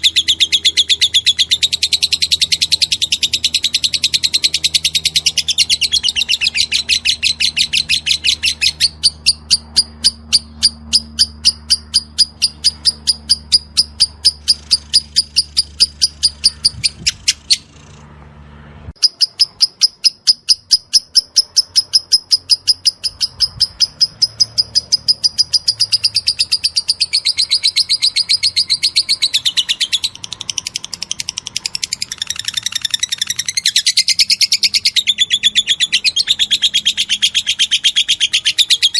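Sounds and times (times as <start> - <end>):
bird rapid high chirps: 0.0 - 18.0, 19.0 - 38.9.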